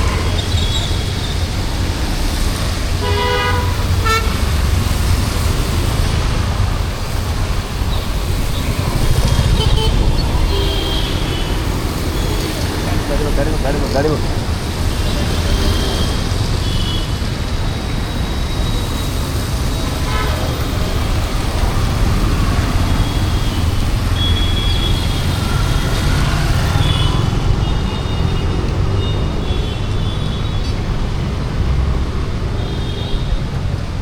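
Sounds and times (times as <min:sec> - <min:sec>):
tyres hissing on wet road: 0:00.0 - 0:32.9.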